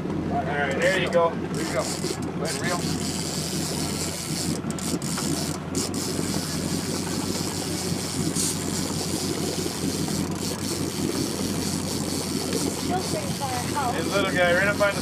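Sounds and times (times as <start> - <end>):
boat engine humming: 0.0 - 15.0
wind and water hiss: 1.5 - 15.0.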